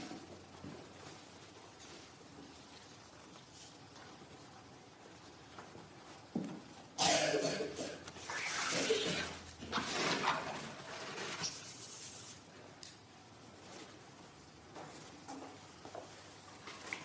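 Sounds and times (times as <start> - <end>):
rustling and handling noise: 0.0 - 7.0, 8.1 - 17.0.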